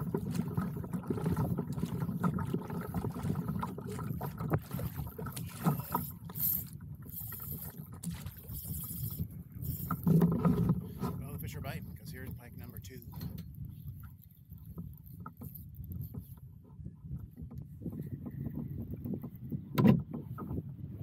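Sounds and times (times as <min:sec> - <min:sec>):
water lapping along a hull: 0:00.0 - 0:21.0
wind rumbling on microphone: 0:00.0 - 0:21.0.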